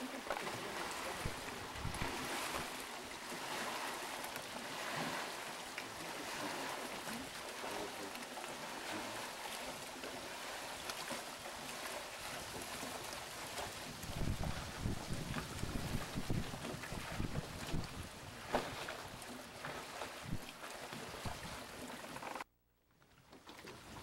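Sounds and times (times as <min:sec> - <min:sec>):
choppy lake water: 0:00.0 - 0:24.0
wind: 0:00.0 - 0:24.0.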